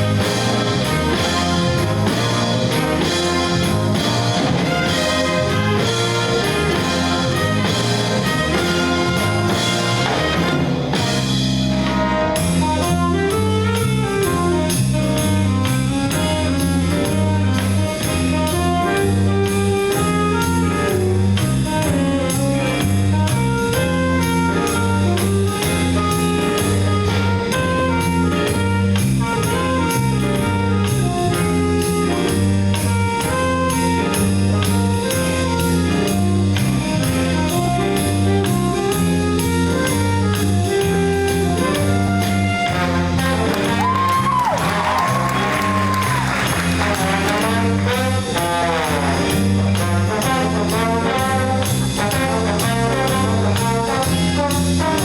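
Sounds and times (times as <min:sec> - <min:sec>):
jazz ensemble playing: 0:00.0 - 0:55.0
trumpets and trombones: 0:00.0 - 0:55.0.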